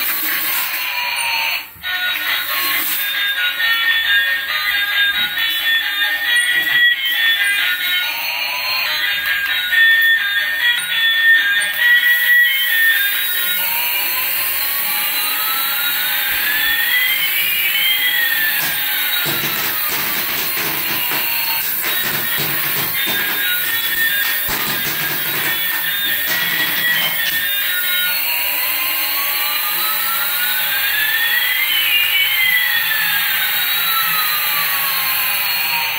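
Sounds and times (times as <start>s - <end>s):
music: 0.0s - 35.9s
toy helicopter rotors whirring: 0.0s - 35.9s.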